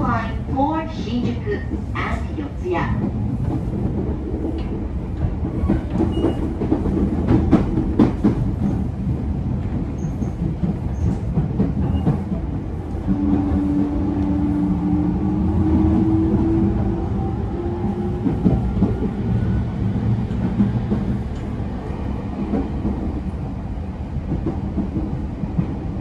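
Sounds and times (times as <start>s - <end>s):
rail joint clacks: 0.0s - 26.0s
train wheels rumbling on rail: 0.0s - 26.0s.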